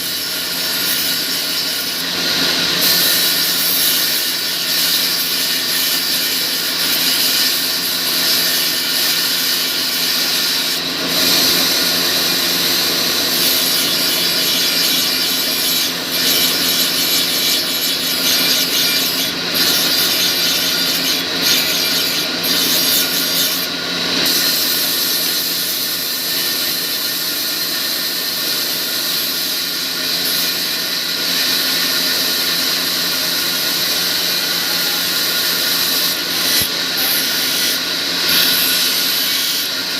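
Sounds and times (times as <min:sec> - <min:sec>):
saw rasping: 0:00.0 - 0:39.9.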